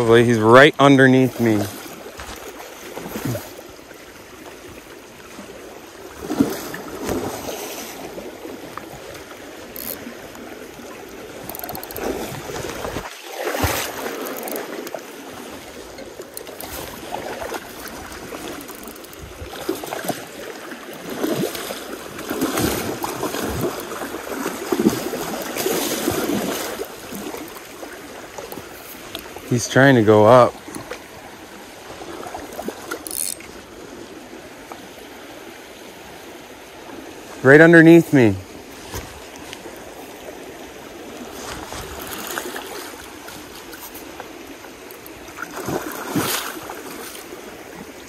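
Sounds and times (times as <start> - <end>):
river current rushing and splashing: 0.0 - 48.0.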